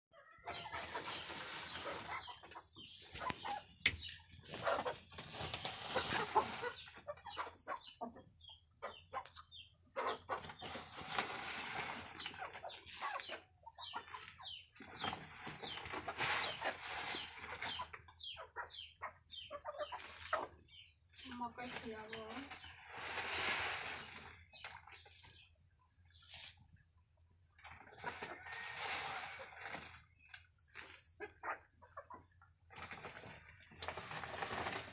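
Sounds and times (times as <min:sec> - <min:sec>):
hens and roosters clucking: 0:00.1 - 0:34.9.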